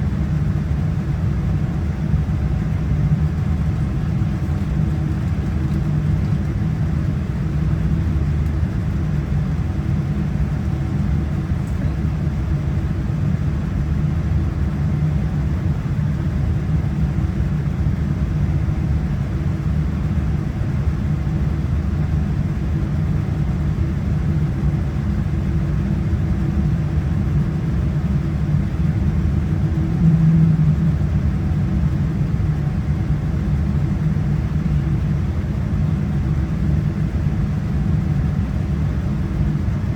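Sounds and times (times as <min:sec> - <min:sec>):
aircraft engines low rumble: 0:00.0 - 0:39.9
steady hum: 0:00.0 - 0:39.9.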